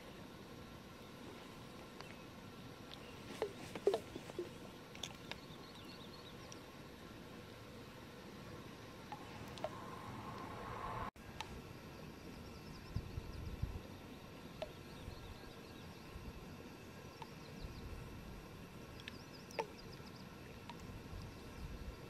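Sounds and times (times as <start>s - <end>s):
low rumble of wind: 0.0s - 22.0s.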